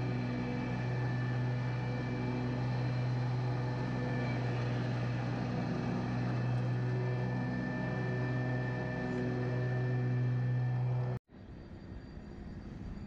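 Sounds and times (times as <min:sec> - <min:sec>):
lawn mower engine running: 0:00.0 - 0:11.2.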